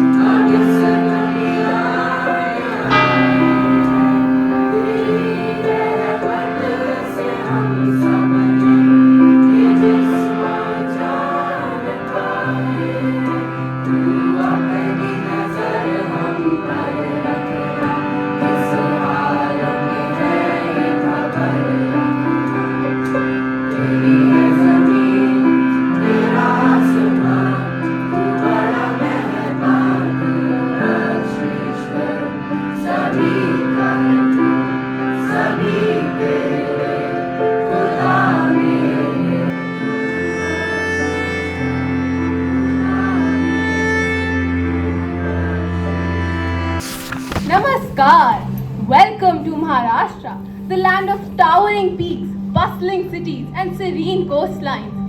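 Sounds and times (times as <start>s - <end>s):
instrument holding sustained chords: 0.0s - 47.4s
choir singing a prayer: 0.0s - 48.5s.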